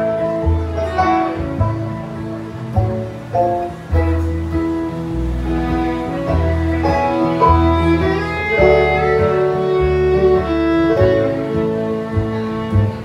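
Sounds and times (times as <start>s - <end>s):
acoustic guitar: 0.0s - 13.0s
banjo: 0.0s - 13.0s
fiddle: 0.0s - 13.0s
upright bass: 0.0s - 13.0s.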